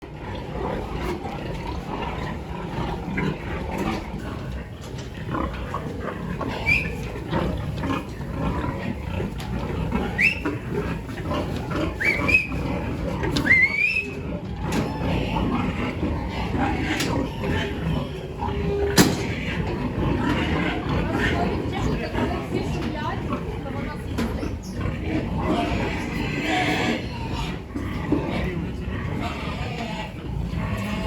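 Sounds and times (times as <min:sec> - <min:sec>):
pigs grunting: 0:00.0 - 0:31.0
pigs squealing: 0:00.1 - 0:31.0.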